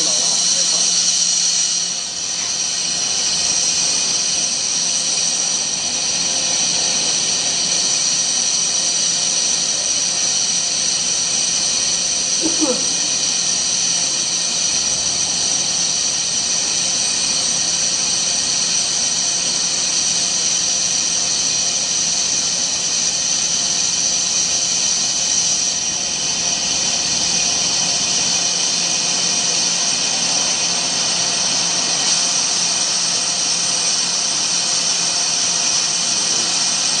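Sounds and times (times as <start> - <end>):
lathe cutting metal whine: 0.0 - 37.0.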